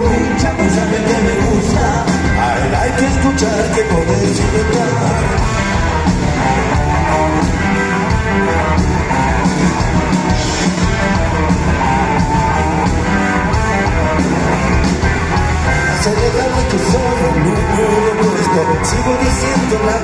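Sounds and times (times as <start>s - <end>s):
electric guitar: 0.0s - 20.0s
live rock band playing: 0.0s - 20.0s.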